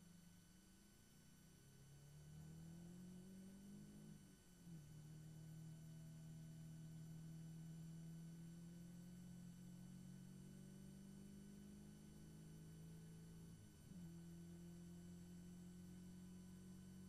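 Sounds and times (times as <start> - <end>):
race car engine drone: 1.7 - 17.0.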